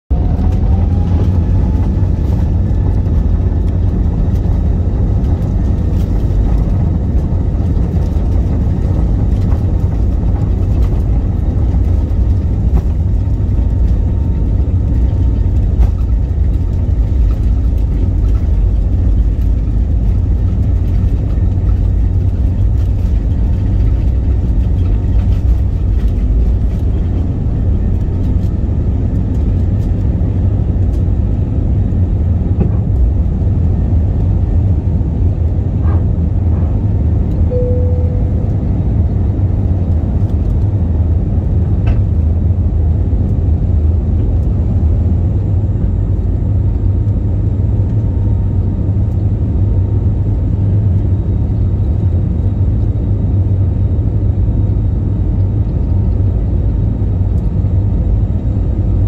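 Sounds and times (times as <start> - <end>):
jet engine whine: 0.1 - 59.0
jet engines roaring: 0.1 - 59.0.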